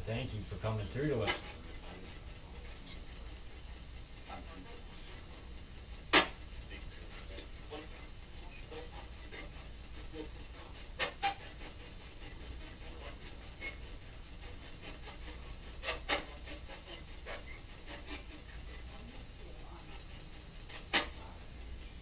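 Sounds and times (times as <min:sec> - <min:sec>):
room hiss: 0:00.0 - 0:22.0.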